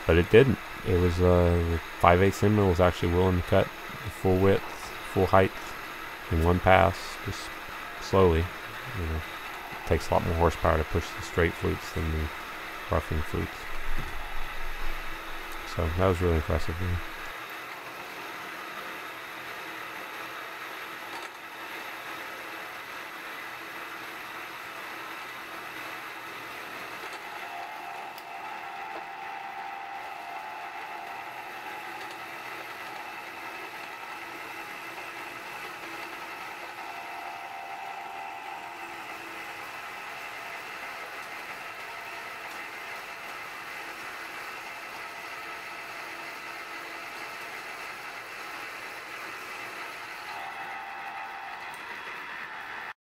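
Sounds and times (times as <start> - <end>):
milling machine cutting steel: 0.0 - 21.4, 22.0 - 53.0.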